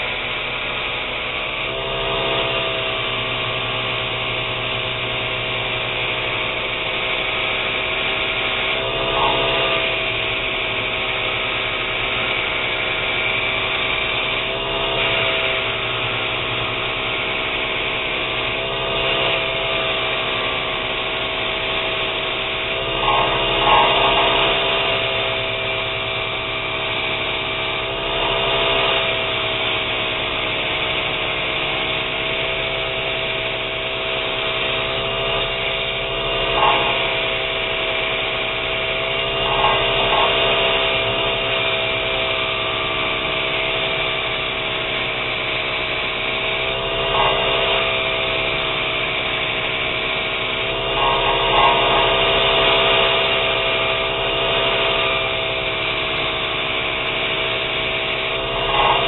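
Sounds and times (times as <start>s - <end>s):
belt grinder motor hum: 0.0s - 59.0s.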